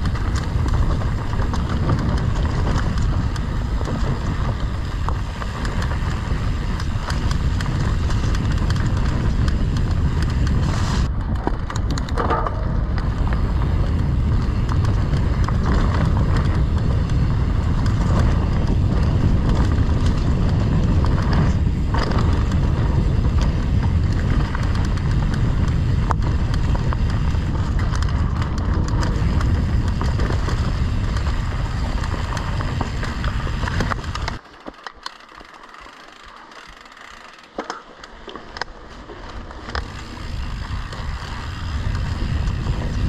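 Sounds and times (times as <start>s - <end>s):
wind rumbling on microphone: 0.0s - 37.4s, 38.1s - 43.0s
mountain bike rattling: 0.0s - 43.0s.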